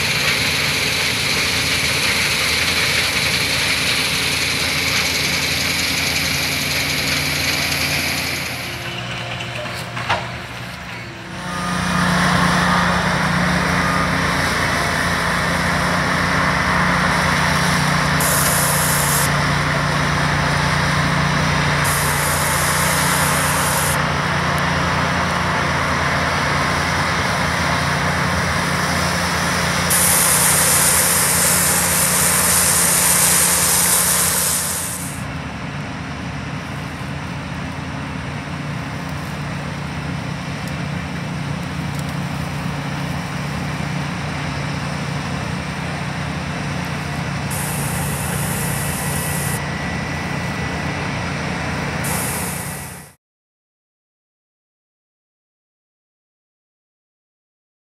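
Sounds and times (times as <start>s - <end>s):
combine harvester drone: 0.0s - 53.2s.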